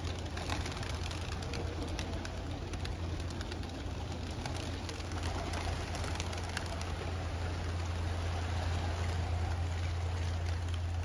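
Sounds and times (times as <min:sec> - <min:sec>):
pigeons flapping wings: 0:00.0 - 0:11.0.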